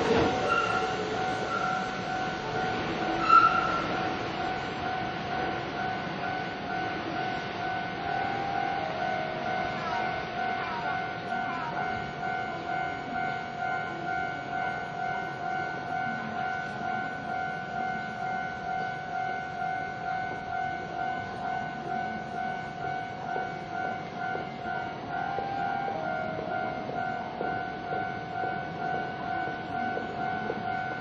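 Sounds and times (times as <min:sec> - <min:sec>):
level-crossing alarm bell ringing: 0:00.0 - 0:31.0.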